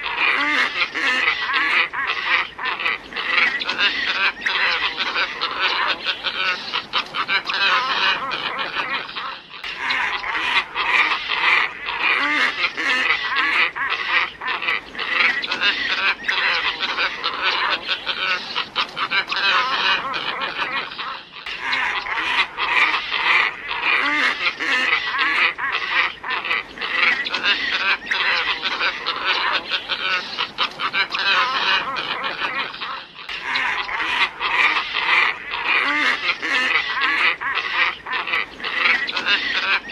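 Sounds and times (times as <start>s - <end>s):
flock of ibis calling: 0.0s - 39.9s.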